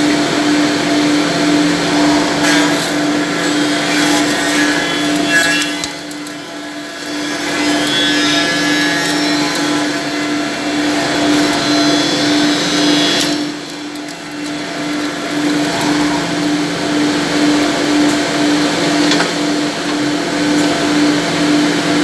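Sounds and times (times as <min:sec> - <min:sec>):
rotary cutters cutting wood: 0:01.2 - 0:22.0
motor hum: 0:01.5 - 0:21.3.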